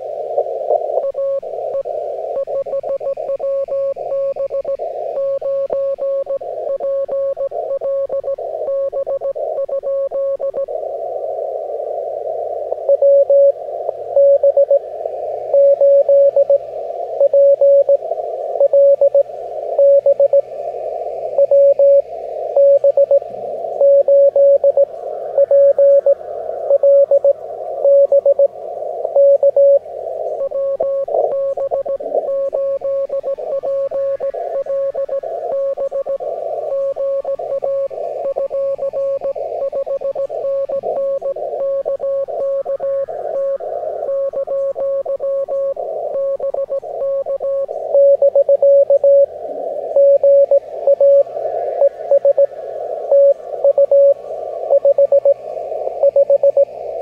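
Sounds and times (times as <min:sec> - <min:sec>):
faint higher-pitched morse signal: 0:00.0 - 0:57.0
radio band hiss: 0:00.0 - 0:57.0
morse code tone: 0:00.7 - 0:10.7, 0:12.8 - 0:14.8, 0:15.5 - 0:16.6, 0:17.2 - 0:18.0, 0:18.6 - 0:20.4, 0:21.4 - 0:28.5, 0:29.1 - 0:49.3, 0:49.9 - 0:52.5, 0:53.1 - 0:55.4, 0:56.0 - 0:56.7.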